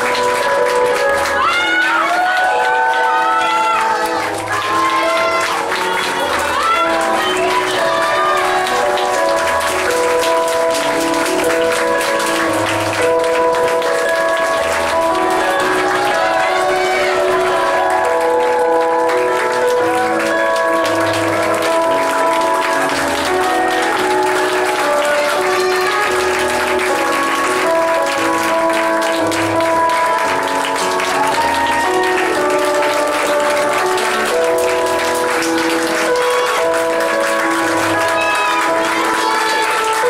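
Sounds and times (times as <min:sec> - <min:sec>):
audience applause: 0:00.0 - 0:40.0
instrumental music with held notes: 0:00.0 - 0:40.0.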